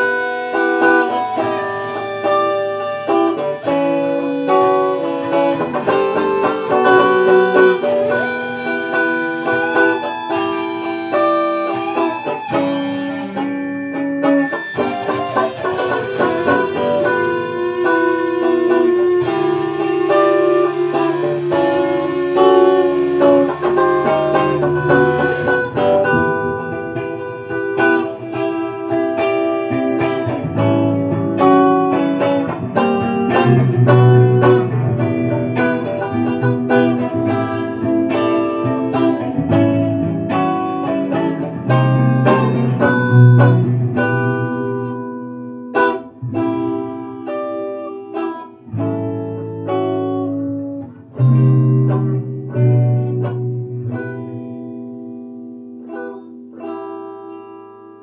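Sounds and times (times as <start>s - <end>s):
guitar plucked notes and chords: 0.0s - 58.0s.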